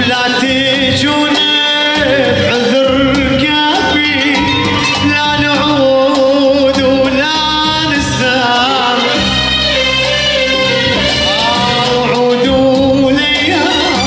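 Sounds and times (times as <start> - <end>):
man singing: 0.0 - 14.0
steady beat: 0.0 - 14.0.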